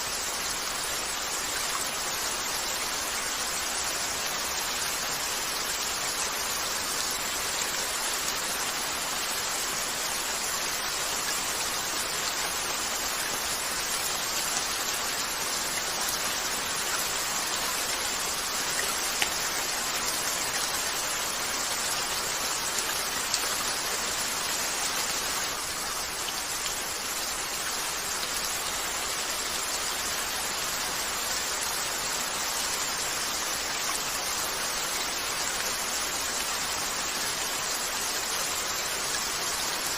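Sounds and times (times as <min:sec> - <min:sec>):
rain falling on a window: 0:00.0 - 0:39.9.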